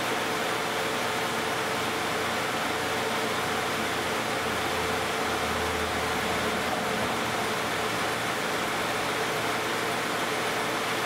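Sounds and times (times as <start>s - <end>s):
car engine idling: 0.8s - 10.4s.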